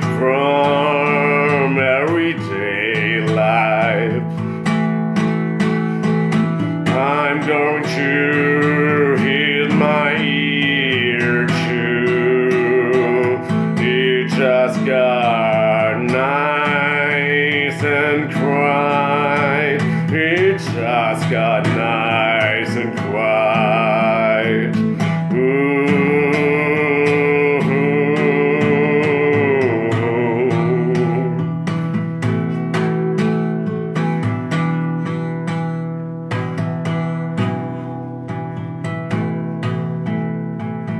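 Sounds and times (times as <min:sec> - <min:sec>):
held melodic line with vibrato: 0:00.0 - 0:40.8
guitar playing: 0:00.0 - 0:40.9.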